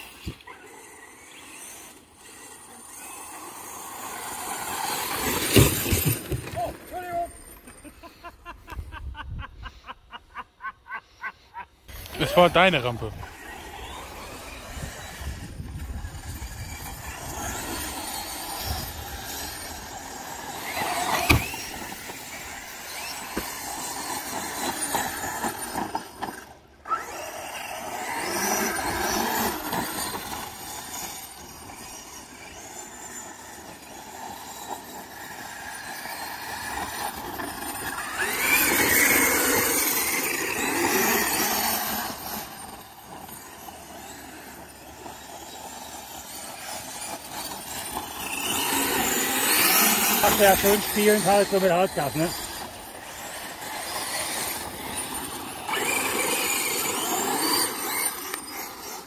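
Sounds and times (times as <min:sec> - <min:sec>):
electric motor whining: 0:00.0 - 0:08.1, 0:11.9 - 0:59.0
tyres churning sand: 0:00.0 - 0:08.7, 0:11.0 - 0:59.0.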